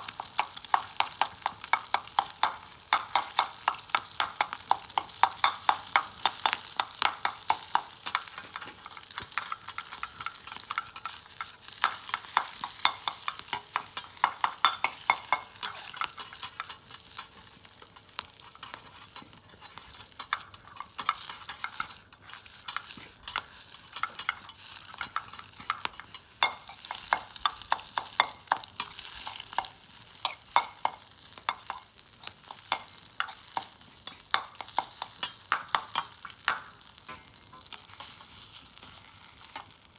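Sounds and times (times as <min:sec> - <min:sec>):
metal utensil scraping a pan: 0:00.0 - 0:39.8
food sizzling in a wok: 0:00.0 - 0:39.9.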